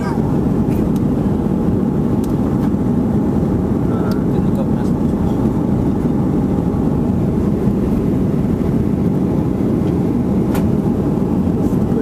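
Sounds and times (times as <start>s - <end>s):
airliner engines and rushing air: 0.0s - 12.0s.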